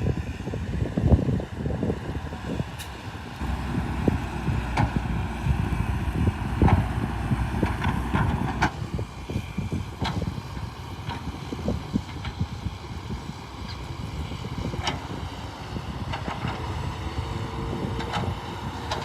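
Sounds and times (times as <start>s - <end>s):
machinery engine rumble: 0.1s - 19.0s.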